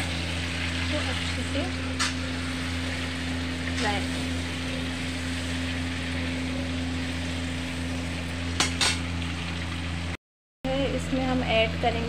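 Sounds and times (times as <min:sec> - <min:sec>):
chicken sizzling in oil: 0:00.0 - 0:10.2
low hum: 0:00.0 - 0:12.0.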